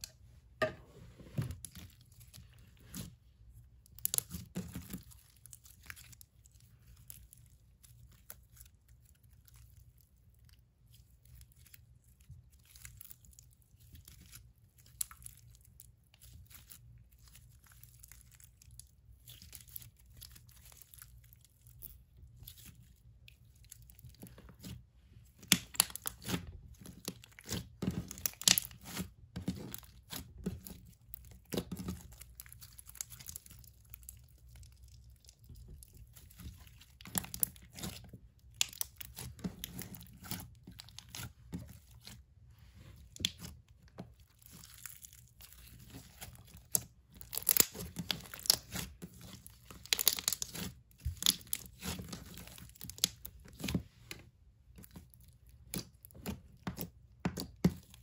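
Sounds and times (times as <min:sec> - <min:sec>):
slime clicking and crackling: 0:03.8 - 0:24.7, 0:25.3 - 0:42.2, 0:43.0 - 0:58.0.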